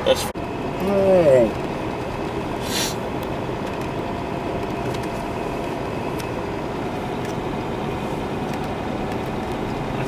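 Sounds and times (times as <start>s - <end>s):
engine and road noise in cab: 0.0s - 10.0s.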